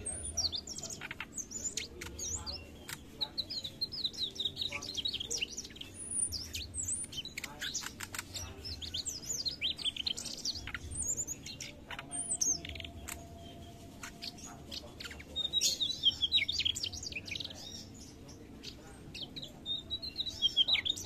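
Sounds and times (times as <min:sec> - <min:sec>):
bird singing quick chirps and trills: 0:00.0 - 0:21.0.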